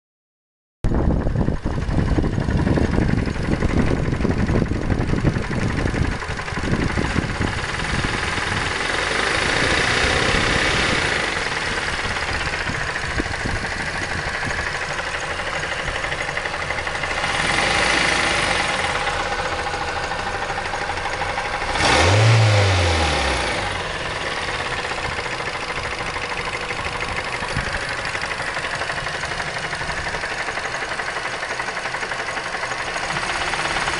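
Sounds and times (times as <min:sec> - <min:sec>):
car engine knocking and revving: 0:01.0 - 0:33.9.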